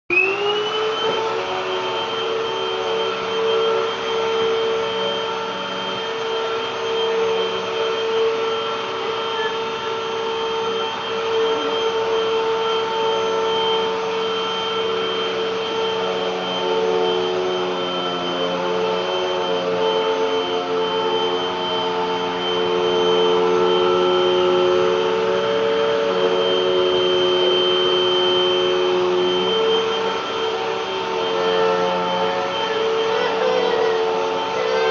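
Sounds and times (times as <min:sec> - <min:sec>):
vacuum cleaner motor whining: 0:00.1 - 0:34.9.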